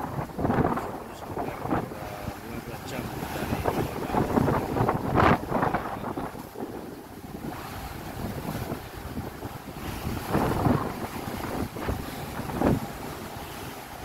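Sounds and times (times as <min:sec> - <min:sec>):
sea waves rushing: 0:00.0 - 0:14.0
wind buffeting microphone: 0:00.0 - 0:14.0.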